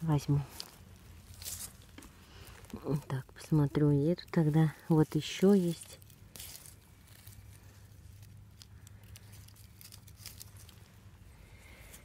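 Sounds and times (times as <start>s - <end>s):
rustling dry pine needles and leaves: 0.0s - 12.0s.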